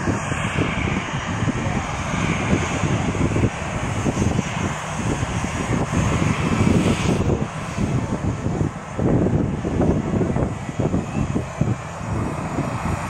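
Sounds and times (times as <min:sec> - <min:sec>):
jet engines roaring with rumble: 0:00.0 - 0:13.0.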